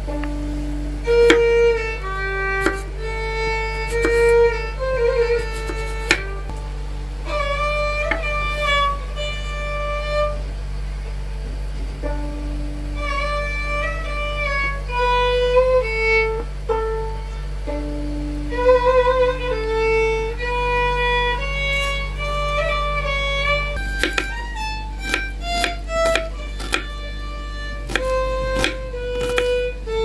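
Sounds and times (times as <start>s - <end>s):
steady low hum: 0.0s - 30.0s
violin playing slow melody: 0.0s - 30.0s.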